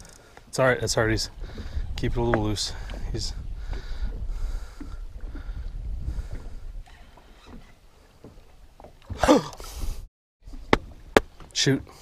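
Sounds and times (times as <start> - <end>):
water lapping against boat hull: 0.0 - 12.0.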